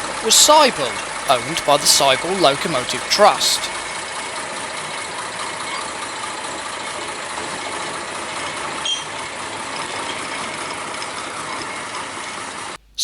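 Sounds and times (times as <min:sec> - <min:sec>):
diesel locomotive rattling: 0:00.0 - 0:12.2.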